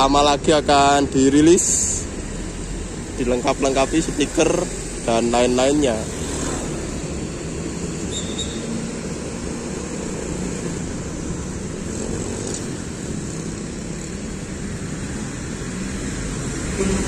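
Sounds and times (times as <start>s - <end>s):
cars passing: 0.0s - 17.0s
motorbikes passing: 0.0s - 17.0s
steady engine drone: 0.0s - 17.0s.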